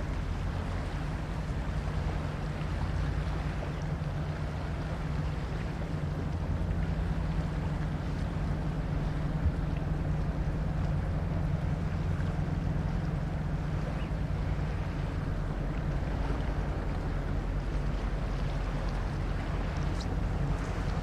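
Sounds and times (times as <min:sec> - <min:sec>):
boat engine hum: 0:00.0 - 0:21.0.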